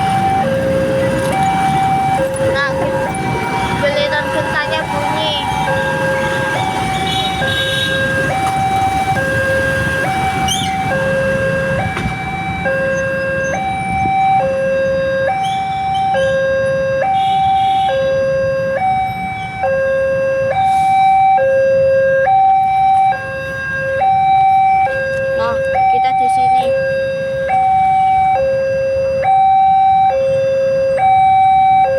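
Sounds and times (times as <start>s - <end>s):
low rumble of traffic: 0.0s - 31.9s
two-tone warning siren: 0.0s - 31.9s.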